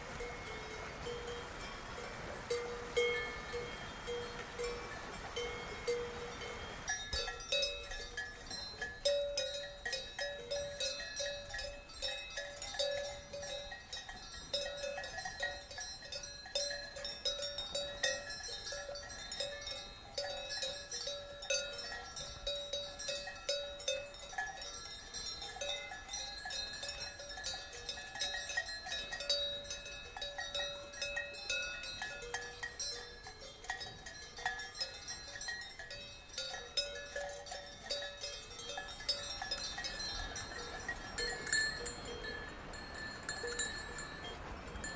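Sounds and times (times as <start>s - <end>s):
cowbells clanking: 0.0s - 44.9s.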